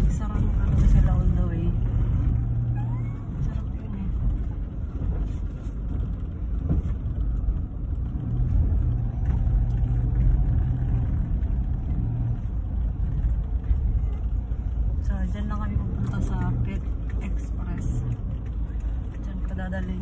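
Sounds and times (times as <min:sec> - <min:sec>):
car engine hum: 0:00.0 - 0:20.0
road rumble: 0:00.0 - 0:20.0.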